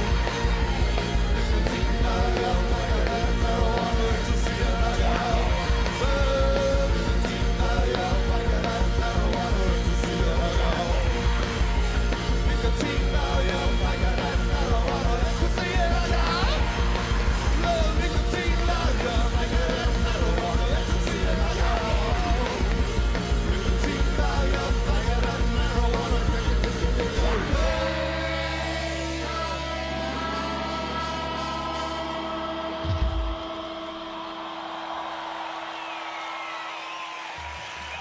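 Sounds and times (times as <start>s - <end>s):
gliding guitar tones: 0.0s - 34.7s
distorted guitars: 0.0s - 35.8s
hard rock band playing: 0.0s - 35.8s
drums: 0.0s - 38.0s.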